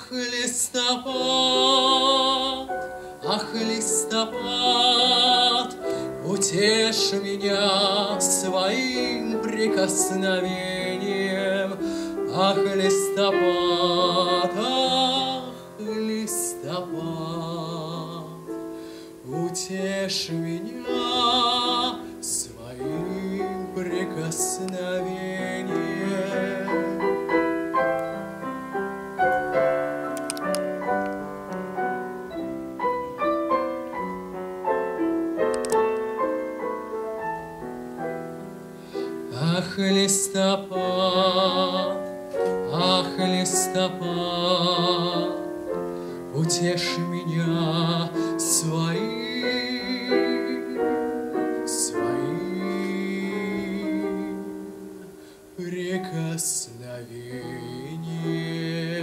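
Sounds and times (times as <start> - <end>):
man singing with vibrato: 0.0 - 28.5, 38.0 - 59.0
slow solo piano: 0.0 - 59.0.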